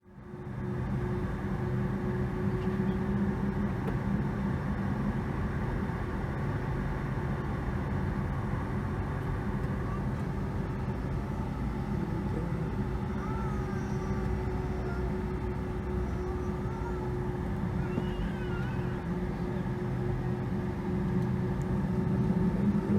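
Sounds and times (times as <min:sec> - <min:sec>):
airliner cabin hum with tone: 0:00.0 - 0:22.9.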